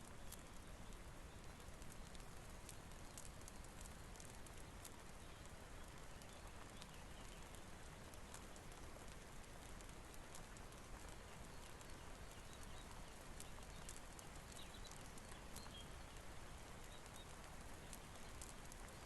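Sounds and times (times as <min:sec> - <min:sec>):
quiet rain hiss: 0:00.0 - 0:19.0
wood fire crackling: 0:00.0 - 0:19.0.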